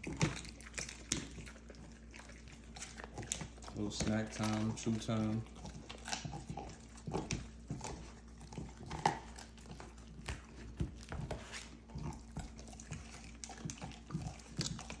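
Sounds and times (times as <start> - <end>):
dog crunching bones: 0.0 - 15.0.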